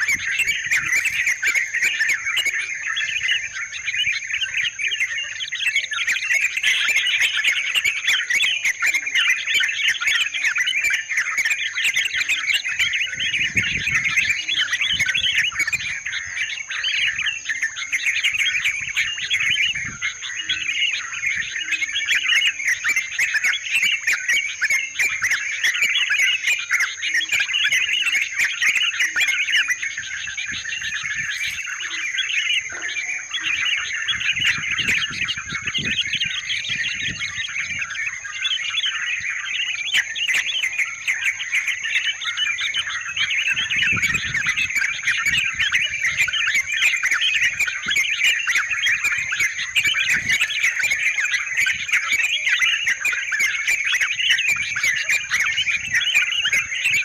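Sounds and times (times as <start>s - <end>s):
birds chattering: 0.0s - 57.0s.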